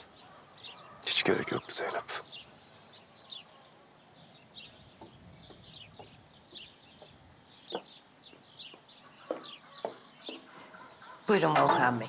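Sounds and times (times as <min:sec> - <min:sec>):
falling bird chirps: 0:00.0 - 0:12.0.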